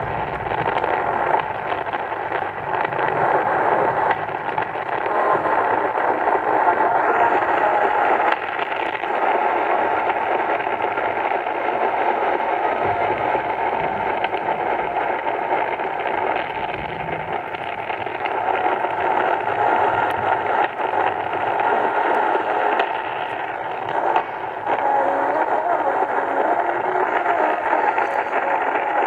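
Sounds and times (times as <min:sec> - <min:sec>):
radio static hiss: 0:00.0 - 0:29.0
static crackles: 0:00.0 - 0:29.0.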